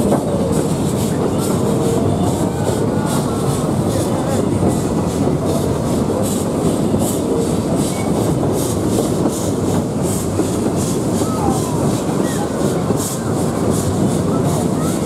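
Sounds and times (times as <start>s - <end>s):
steam locomotive exhaust chuffs: 0.0s - 15.0s
train wheels rumbling: 0.0s - 15.0s.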